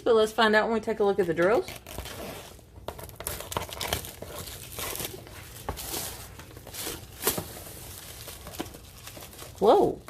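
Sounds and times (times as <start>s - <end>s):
plastic shrink wrap crinkling: 1.0s - 10.0s.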